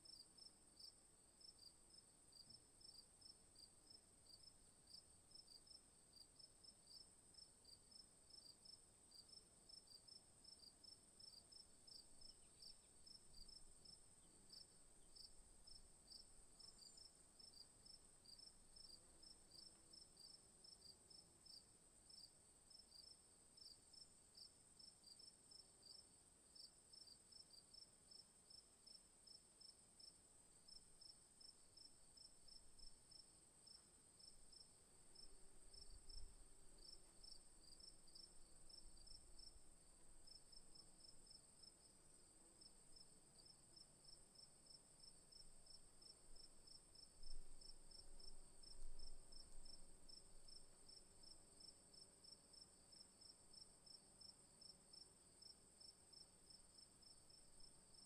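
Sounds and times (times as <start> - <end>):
crickets chirping: 7.6 - 58.0.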